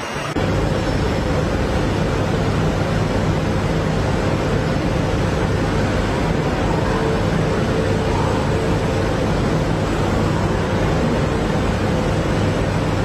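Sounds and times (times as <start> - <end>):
low steady hum: 0.3 - 13.0.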